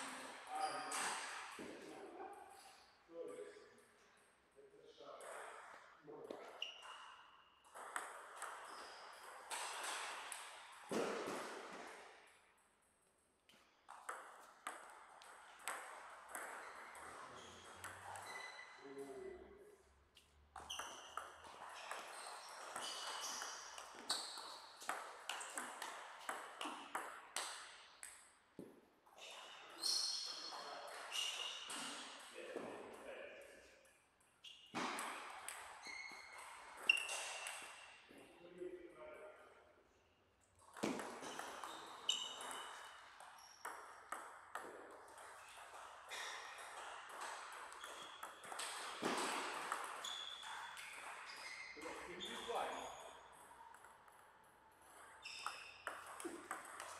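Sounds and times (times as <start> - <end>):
table tennis ball hitting bats and table: 5.2 - 18.8, 20.2 - 28.8, 30.2 - 33.4, 34.2 - 38.1, 40.6 - 56.9.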